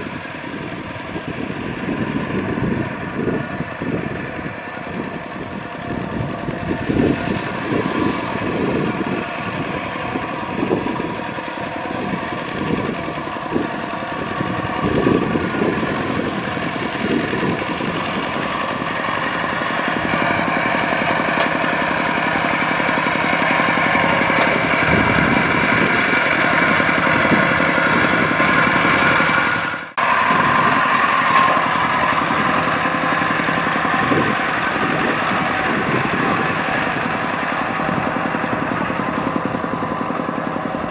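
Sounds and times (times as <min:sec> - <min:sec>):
diesel engine chugging under load: 0:00.0 - 0:40.9.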